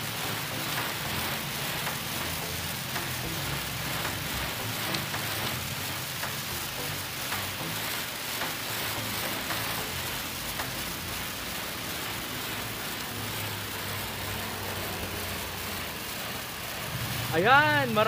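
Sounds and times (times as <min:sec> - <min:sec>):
pressure washer spraying concrete: 0:00.0 - 0:18.0.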